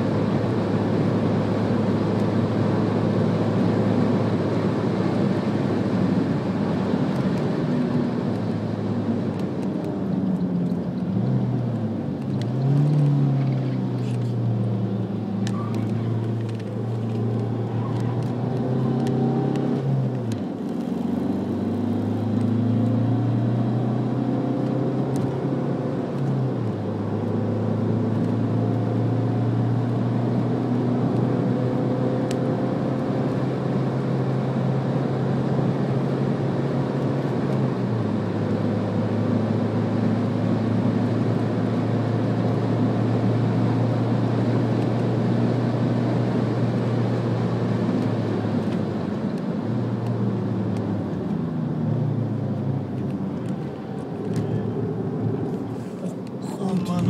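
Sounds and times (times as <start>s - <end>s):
tyre and road noise: 0.0s - 57.0s
car engine revving: 2.2s - 34.9s, 38.1s - 57.0s.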